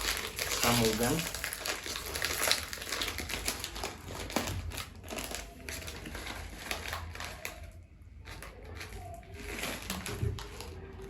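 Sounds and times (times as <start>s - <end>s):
packet crinkling: 0.0s - 11.0s.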